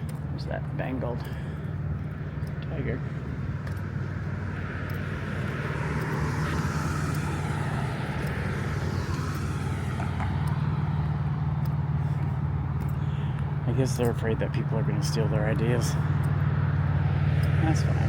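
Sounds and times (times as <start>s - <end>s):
low traffic engine hum: 0.0s - 18.0s
vehicle passing: 0.0s - 18.0s.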